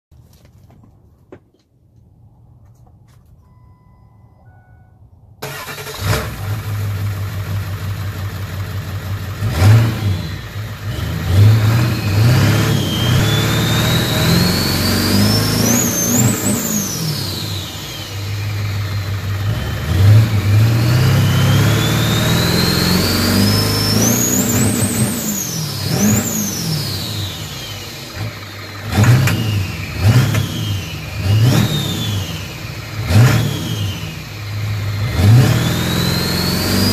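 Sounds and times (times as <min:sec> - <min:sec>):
diesel engine revving: 0:05.4 - 0:36.9.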